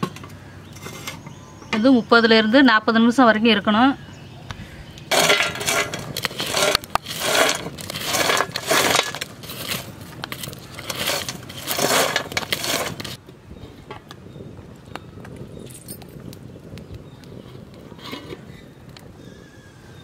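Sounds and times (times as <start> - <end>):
stick scraping burning embers: 0.0 - 1.9, 4.9 - 19.2.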